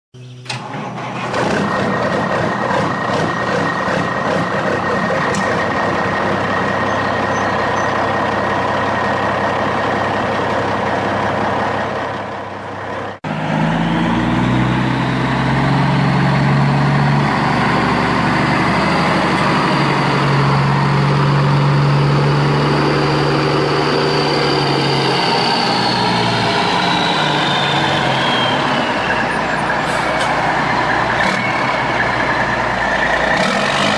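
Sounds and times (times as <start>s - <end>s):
engine with high whine: 0.2s - 33.9s
truck engine running: 0.2s - 33.9s.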